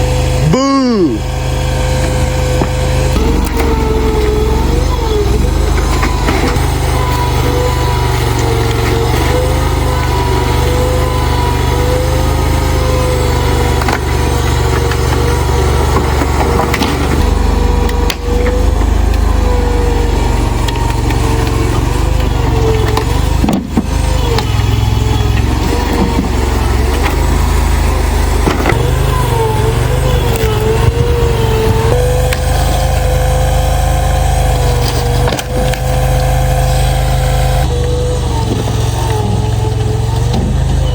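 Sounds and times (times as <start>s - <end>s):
skid steer engine running: 0.0s - 40.9s.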